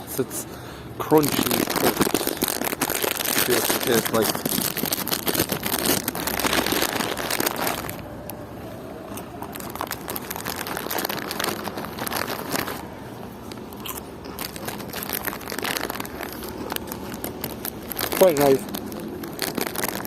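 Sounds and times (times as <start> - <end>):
low background rumble: 0.0 - 20.0
packet crinkling: 1.0 - 8.4, 9.1 - 20.0
crisps crunching: 1.0 - 20.0.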